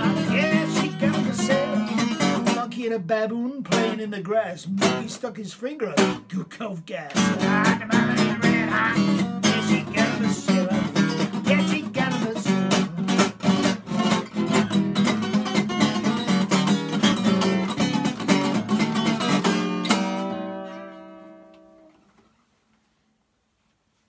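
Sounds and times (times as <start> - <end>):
acoustic guitar blues rhythm: 0.0 - 22.3.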